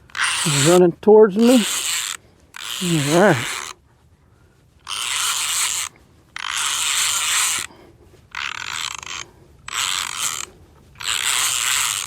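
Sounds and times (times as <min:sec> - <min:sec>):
fishing reel whirring: 0:00.1 - 0:00.8, 0:01.4 - 0:03.8, 0:04.8 - 0:07.7, 0:08.3 - 0:12.0.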